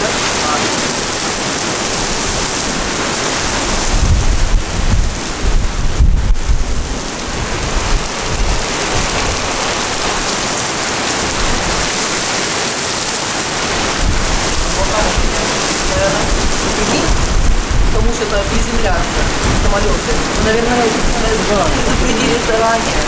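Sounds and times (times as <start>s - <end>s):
thunder rumble: 0.0s - 12.1s, 13.5s - 23.0s
heavy rain pouring: 0.0s - 23.0s.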